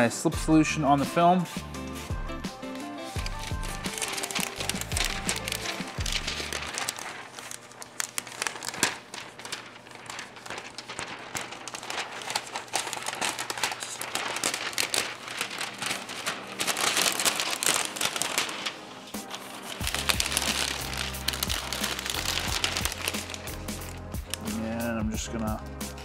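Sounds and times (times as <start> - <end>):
plastic film crinkling: 1.4 - 24.8.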